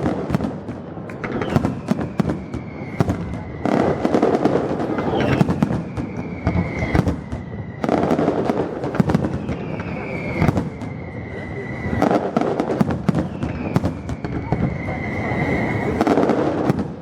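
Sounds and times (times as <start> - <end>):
descending firework whistle: 0.0 - 17.0
fireworks bangs: 0.0 - 17.0
fireworks crackling: 0.0 - 17.0.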